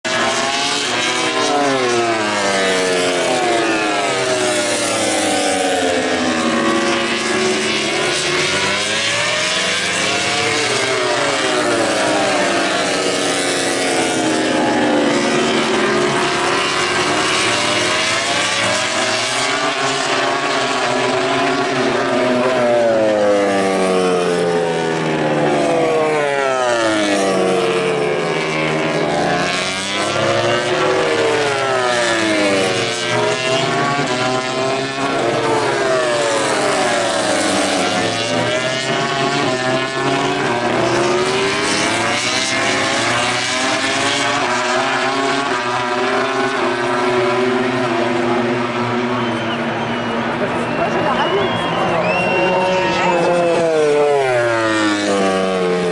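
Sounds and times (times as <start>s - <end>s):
racing motorcycles passing: 0.0s - 55.9s.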